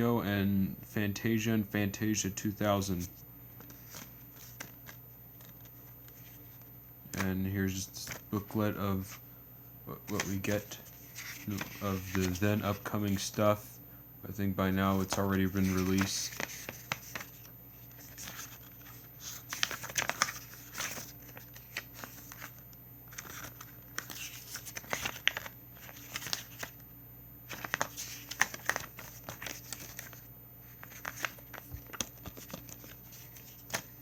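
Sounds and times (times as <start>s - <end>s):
paper rustling and crinkling: 3.6s - 9.2s, 10.0s - 13.6s, 14.8s - 26.8s, 27.5s - 34.0s.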